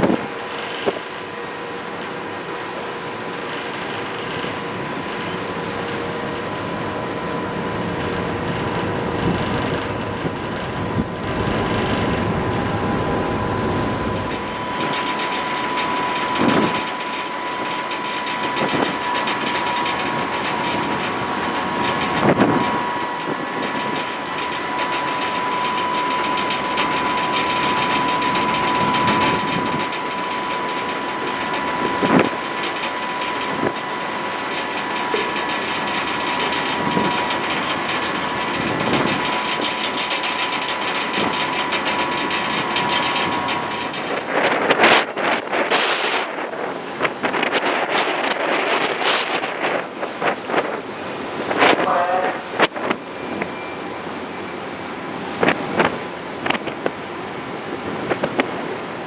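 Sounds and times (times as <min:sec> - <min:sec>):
ship engines running: 0:00.0 - 0:59.0
thin steady whine: 0:00.0 - 0:59.0.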